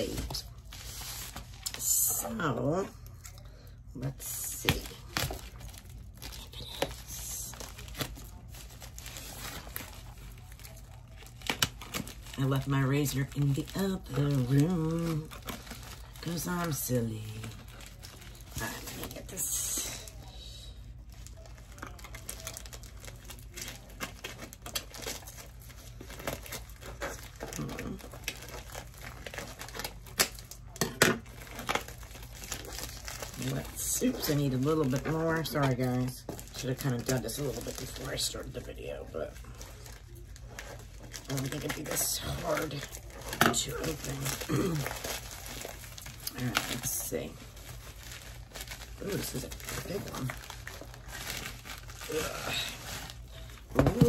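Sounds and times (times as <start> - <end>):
envelope crinkling and rustling: 0.0 - 54.0.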